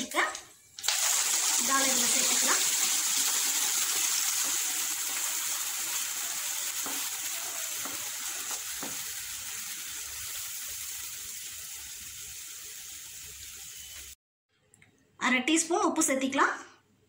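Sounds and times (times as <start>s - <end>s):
food sizzling in hot oil: 0.0s - 14.2s.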